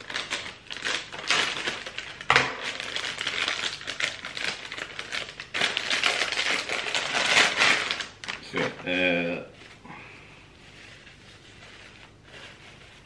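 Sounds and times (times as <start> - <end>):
plastic bag crinkling: 0.0 - 9.0, 10.5 - 13.0.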